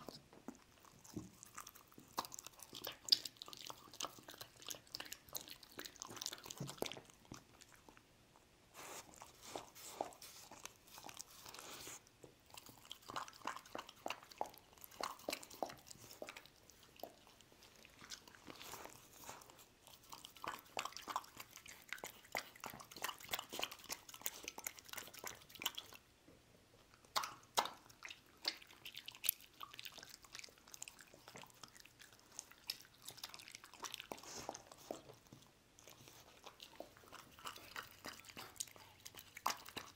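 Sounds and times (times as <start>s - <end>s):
dog chewing: 0.0s - 26.0s, 26.8s - 39.9s.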